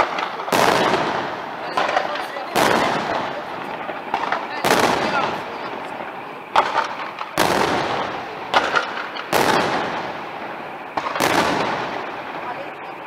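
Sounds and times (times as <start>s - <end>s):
firework shells bursting: 0.0s - 13.0s
rolling echo: 0.0s - 13.0s.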